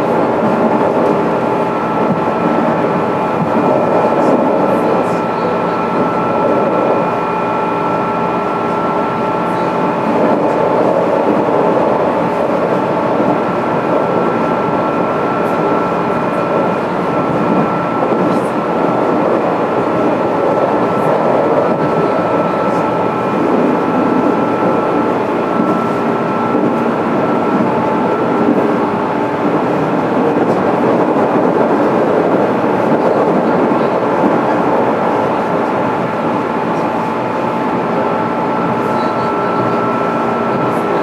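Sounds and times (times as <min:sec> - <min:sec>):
train interior hum and rush: 0:00.0 - 0:41.0.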